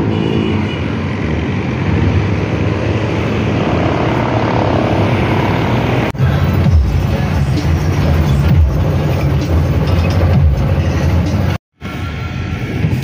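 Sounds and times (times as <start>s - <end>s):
low rumbling street noise: 0.0s - 13.0s.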